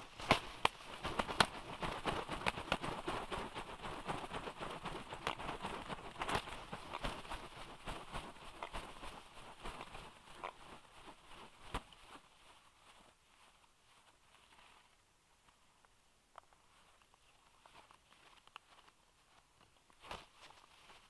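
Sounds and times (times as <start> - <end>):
wings flapping and rustling: 0.0 - 13.2, 16.7 - 21.0
clicks and knocks of twigs: 0.0 - 21.0.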